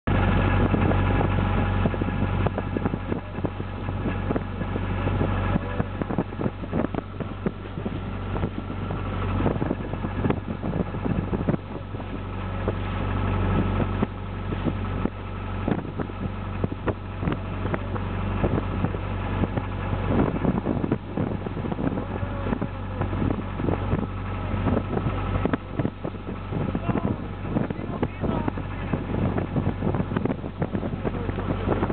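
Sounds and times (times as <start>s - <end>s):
boat engine running: 0.0s - 31.9s
wind gusting on microphone: 0.1s - 31.9s.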